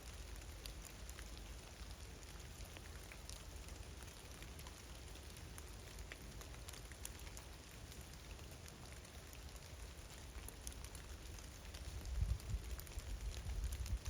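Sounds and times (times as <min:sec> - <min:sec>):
raindrops ticking on surfaces: 0:00.0 - 0:14.0
steady rain falling: 0:00.0 - 0:14.0.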